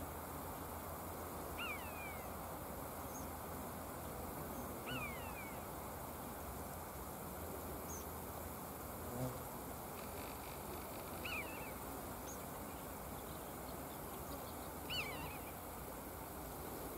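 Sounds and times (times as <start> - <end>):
steady background hiss: 0.0 - 16.9.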